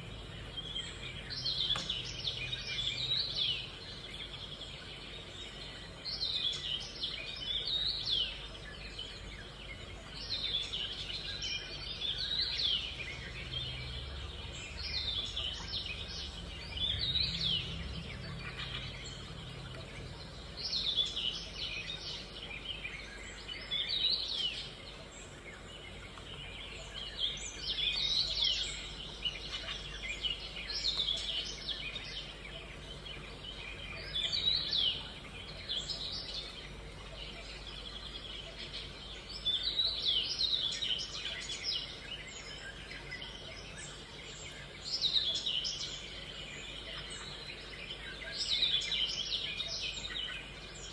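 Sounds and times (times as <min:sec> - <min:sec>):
low steady hum: 0:00.0 - 0:50.9
small birds chirping: 0:00.0 - 0:50.9.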